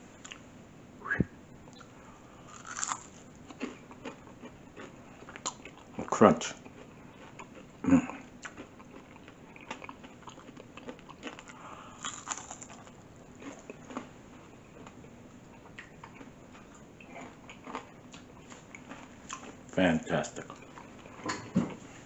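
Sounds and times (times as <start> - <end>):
chewing crunchy fried fish: 1.7 - 21.8.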